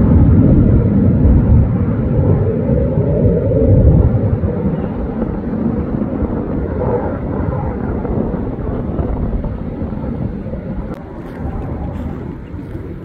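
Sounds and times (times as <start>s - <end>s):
fighter jet rumble: 0.0s - 13.0s.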